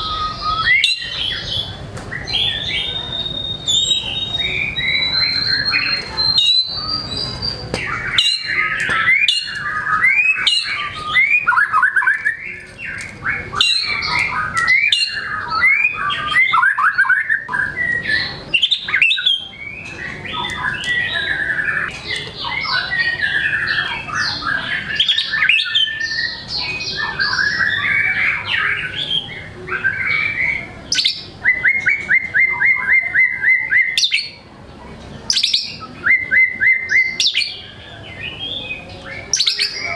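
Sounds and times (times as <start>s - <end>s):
songbird singing varied whistles: 0.0s - 34.4s, 35.3s - 39.9s.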